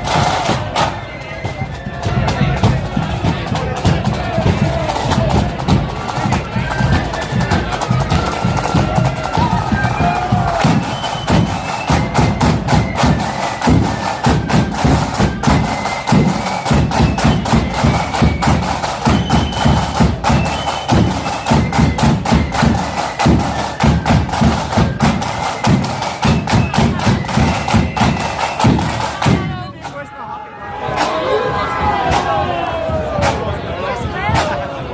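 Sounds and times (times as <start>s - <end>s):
rapid drum beat: 0.0s - 30.1s
flutes playing melody: 0.0s - 30.2s.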